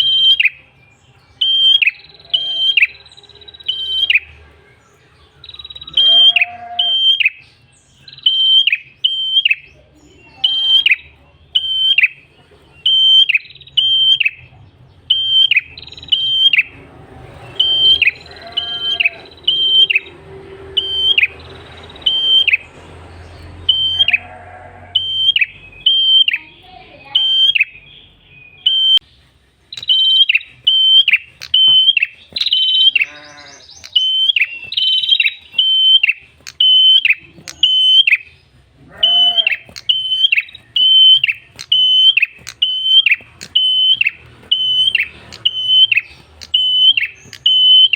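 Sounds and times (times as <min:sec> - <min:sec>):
bird singing high chirps: 0:00.0 - 0:47.9
fainter lower bird calls: 0:05.3 - 0:47.9.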